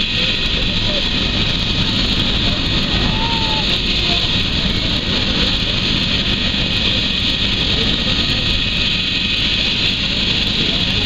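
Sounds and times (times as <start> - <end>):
helicopter rotor beat: 0.0 - 11.0
helicopter turbine whine: 0.0 - 11.0.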